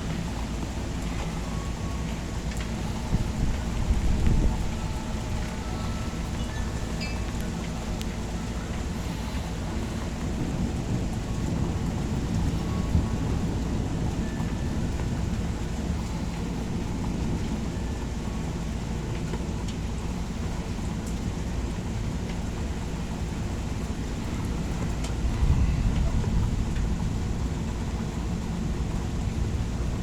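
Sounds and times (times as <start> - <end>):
rain falling: 0.0 - 30.0
thunder rumbling: 0.0 - 30.0.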